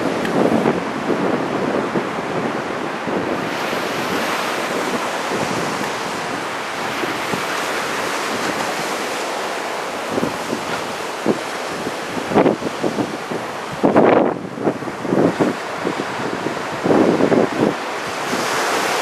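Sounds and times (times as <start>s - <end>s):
heavy surf breaking: 0.0s - 19.0s
wind buffeting microphone: 0.0s - 19.0s.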